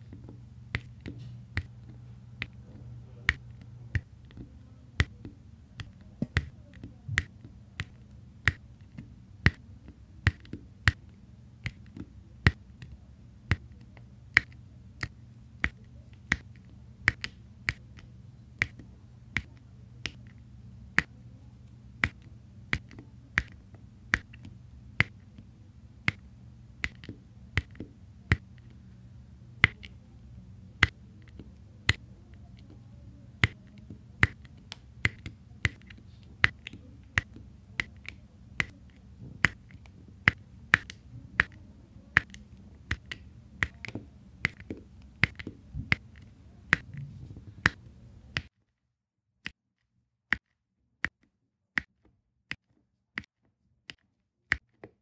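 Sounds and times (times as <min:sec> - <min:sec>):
faint low hum: 0:00.0 - 0:48.4.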